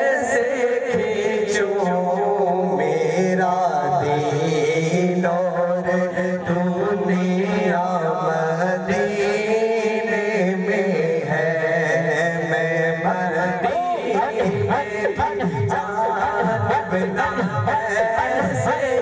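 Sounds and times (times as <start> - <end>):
person chanting: 0.0 - 19.0.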